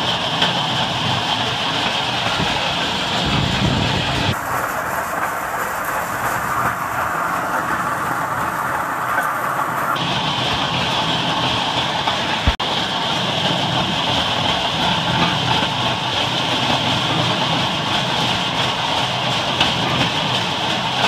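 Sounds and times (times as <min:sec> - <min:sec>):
steel wheels rolling on rails: 0:00.0 - 0:21.0.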